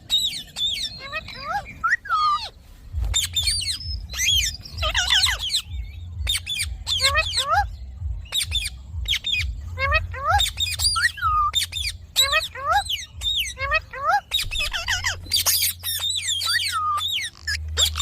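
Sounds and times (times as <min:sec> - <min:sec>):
low rumble: 0:00.0 - 0:15.5
parakeet squawking: 0:00.0 - 0:18.0.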